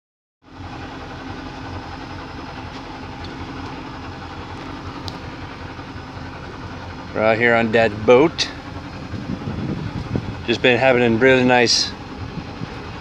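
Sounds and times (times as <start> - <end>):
motorboat engine running: 0.4 - 13.0.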